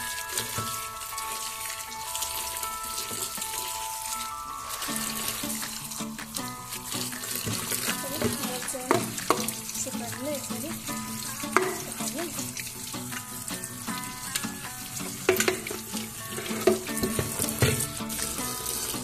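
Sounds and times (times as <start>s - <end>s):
tap water splashing: 0.0s - 19.0s.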